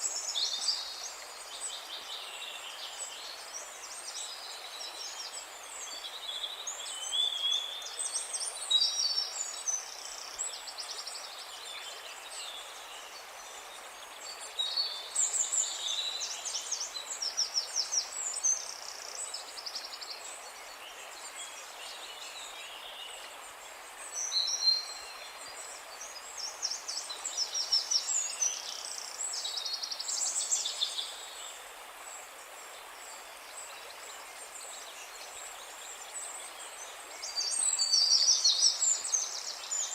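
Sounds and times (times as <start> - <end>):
songbirds trilling and chirping: 0.0 - 39.9
steady background hiss: 0.0 - 39.9.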